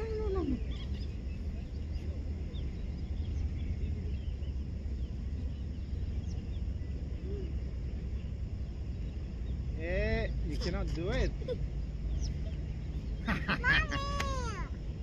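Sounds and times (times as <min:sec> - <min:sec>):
rising and falling bird call: 0:00.0 - 0:08.4, 0:11.3 - 0:15.0
low rumble: 0:00.0 - 0:15.0
small birds chirping: 0:00.0 - 0:15.0.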